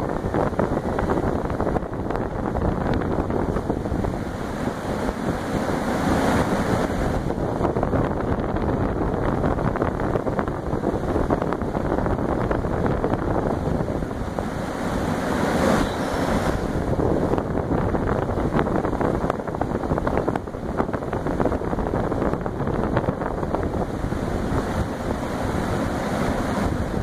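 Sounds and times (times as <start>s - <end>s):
air cooler fan blowing: 0.0s - 27.0s
wind buffeting microphone: 0.0s - 27.0s.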